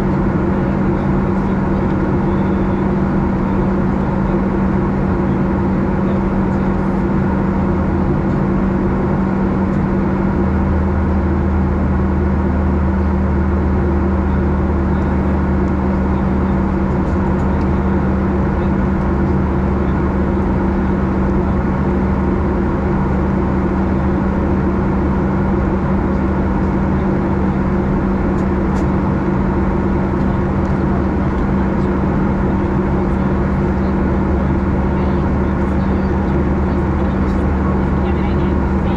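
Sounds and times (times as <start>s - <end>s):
airliner cabin engine drone: 0.0s - 38.9s
deeper hum: 0.0s - 38.9s.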